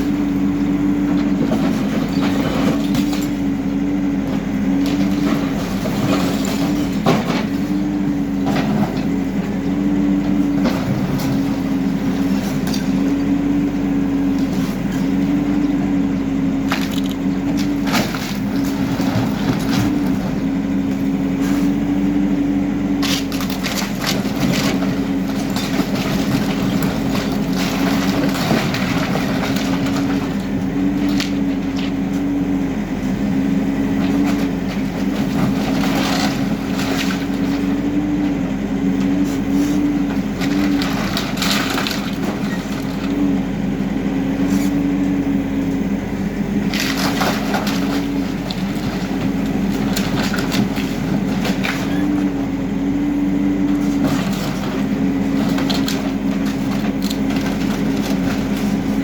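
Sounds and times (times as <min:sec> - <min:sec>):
rubble cracking and crunching: 0:00.0 - 0:15.7, 0:16.5 - 0:21.1, 0:22.9 - 0:32.4, 0:33.2 - 0:43.4, 0:46.4 - 0:59.0
diesel engine running: 0:00.0 - 0:59.0.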